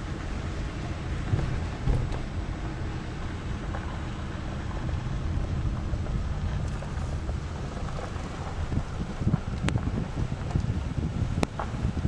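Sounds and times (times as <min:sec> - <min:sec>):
car engine rumble: 0:00.0 - 0:12.0
tyres on gravel: 0:00.0 - 0:12.0
wind buffeting microphone: 0:00.0 - 0:12.0.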